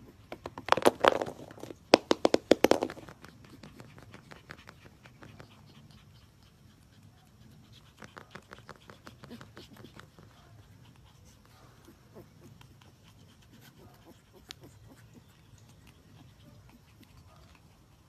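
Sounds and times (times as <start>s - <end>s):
puppies panting: 0.0s - 18.0s.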